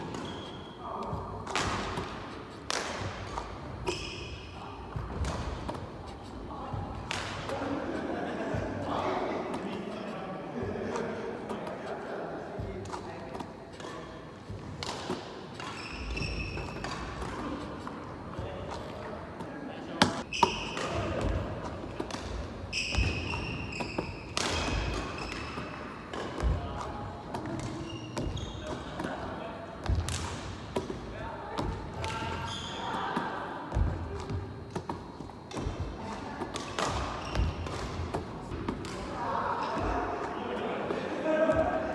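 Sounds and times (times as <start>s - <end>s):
sneakers squeaking on court: 0.0s - 41.9s.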